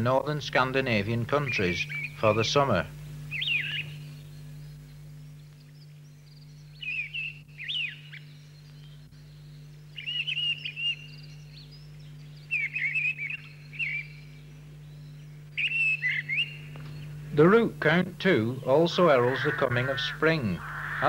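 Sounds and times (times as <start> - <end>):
songbird singing: 0.0 - 21.0
steady low hum: 0.0 - 21.0.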